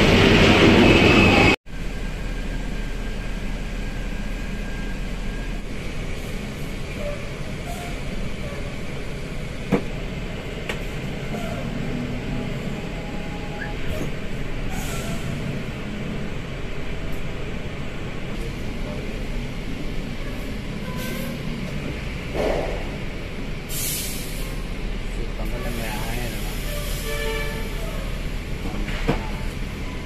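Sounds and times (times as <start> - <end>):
engine and road rumble: 0.0 - 30.0.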